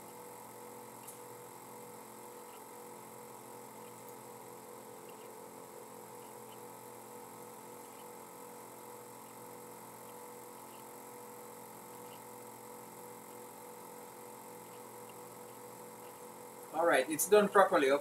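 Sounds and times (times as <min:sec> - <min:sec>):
constant electronic tones: 0:00.0 - 0:18.0
electronic hum and hiss: 0:00.0 - 0:18.0.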